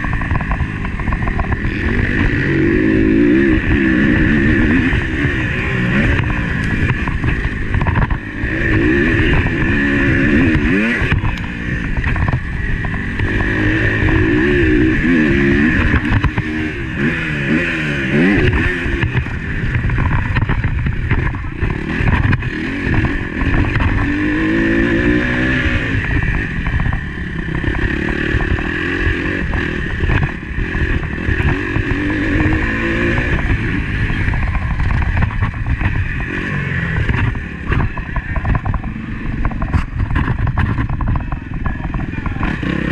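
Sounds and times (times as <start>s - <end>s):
motocross bike engine revving: 0.0s - 42.9s
wind noise: 0.0s - 42.9s.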